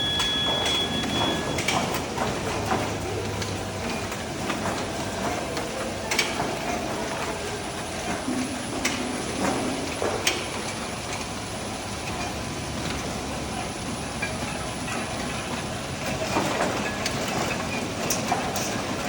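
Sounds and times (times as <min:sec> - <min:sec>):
machine clattering: 0:00.0 - 0:19.0.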